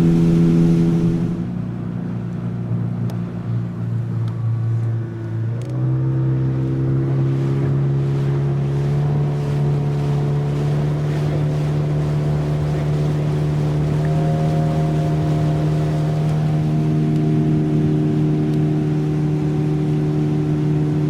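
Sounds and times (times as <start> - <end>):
motorboat engine running: 0.0 - 21.0
water rushing along hull: 0.0 - 21.0.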